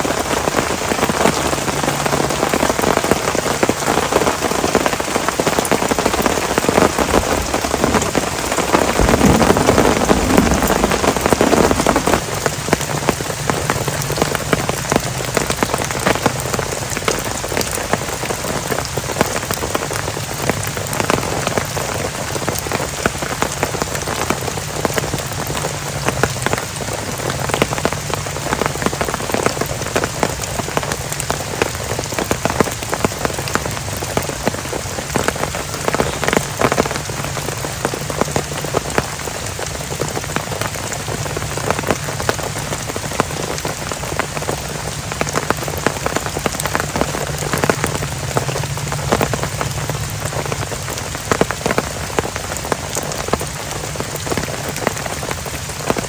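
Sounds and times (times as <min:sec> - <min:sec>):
heavy rain falling: 0:00.0 - 0:56.0
raindrops striking close by: 0:00.0 - 0:56.0.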